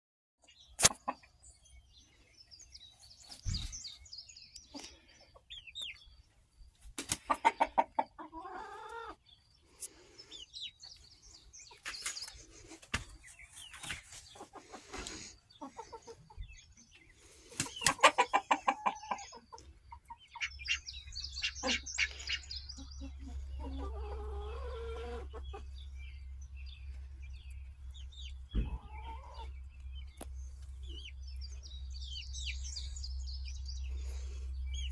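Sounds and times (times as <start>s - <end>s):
chickens clucking and calling: 0.4s - 34.9s.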